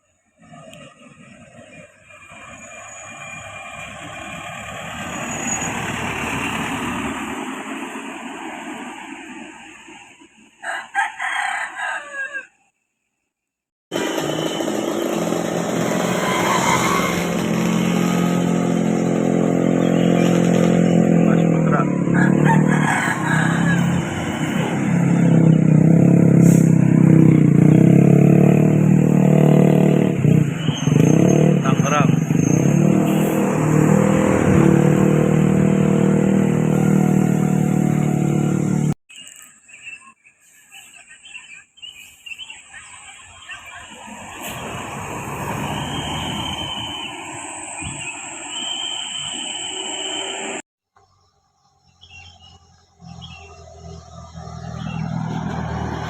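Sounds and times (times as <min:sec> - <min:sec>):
bus engine passing: 0:00.0 - 0:10.8, 0:13.9 - 0:39.0, 0:42.9 - 0:50.6, 0:52.3 - 0:56.0
road noise: 0:00.0 - 0:12.5, 0:13.9 - 0:56.0.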